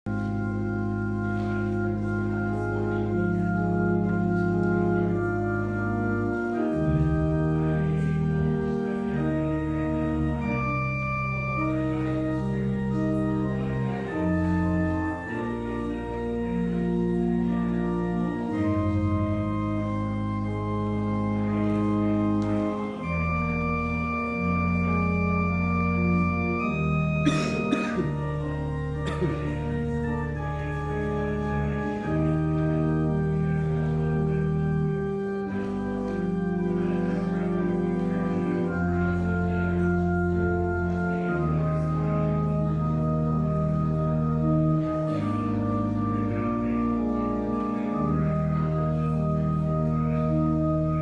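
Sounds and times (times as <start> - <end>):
organ playing slow chords: 0.1 - 51.0.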